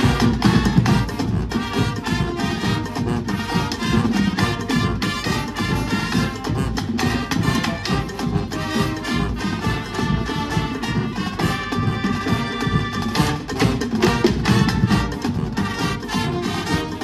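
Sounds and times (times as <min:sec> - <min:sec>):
brass playing a tune: 0:00.0 - 0:17.0
snare and bass drums: 0:00.0 - 0:17.0.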